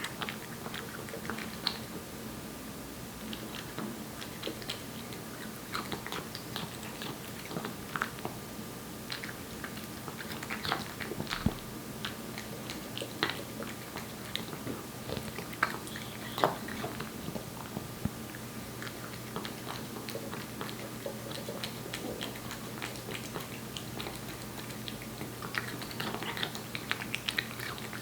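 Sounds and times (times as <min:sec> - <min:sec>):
cat chewing wet food: 0:00.0 - 0:02.1, 0:03.2 - 0:28.0
light steady hum: 0:00.0 - 0:28.0.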